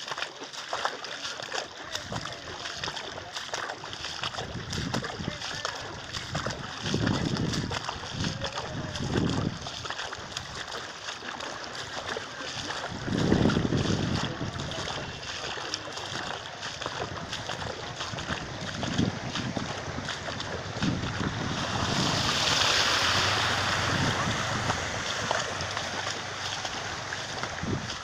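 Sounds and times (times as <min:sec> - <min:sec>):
floodwater splashing and sloshing: 0:00.0 - 0:28.0
steady rushing water: 0:00.0 - 0:28.0.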